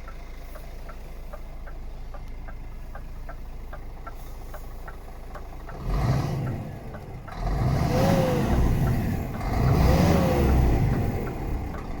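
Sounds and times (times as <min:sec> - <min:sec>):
diesel truck engine revving: 0:00.0 - 0:12.0.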